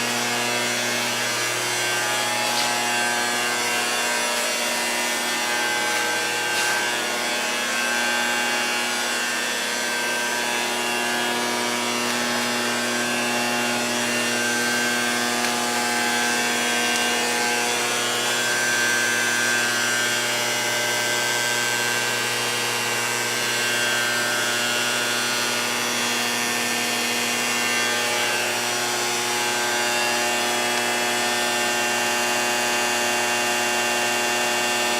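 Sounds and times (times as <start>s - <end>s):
power tool humming: 0.0s - 34.9s.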